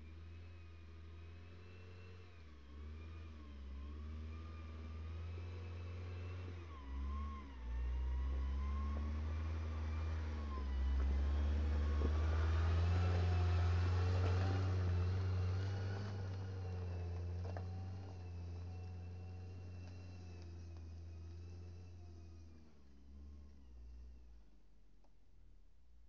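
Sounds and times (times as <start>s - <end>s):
car engine running: 0.0s - 25.8s.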